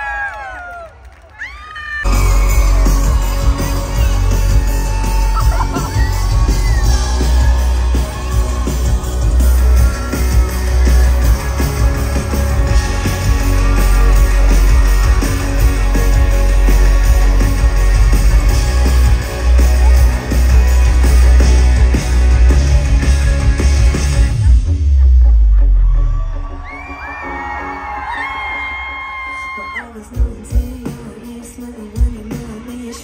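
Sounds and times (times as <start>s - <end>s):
loud amplified music with heavy bass: 2.0s - 33.0s.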